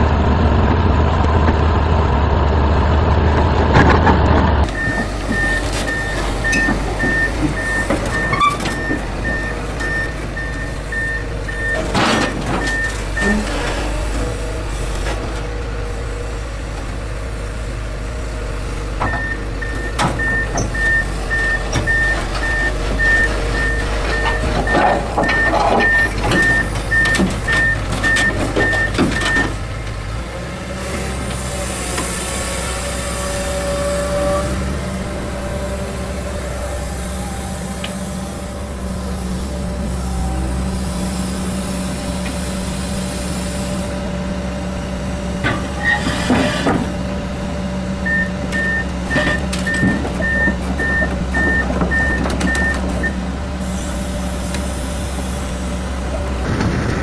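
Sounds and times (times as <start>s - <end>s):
excavator diesel engine running: 0.0s - 57.0s
tracks and steel clanking: 0.0s - 57.0s.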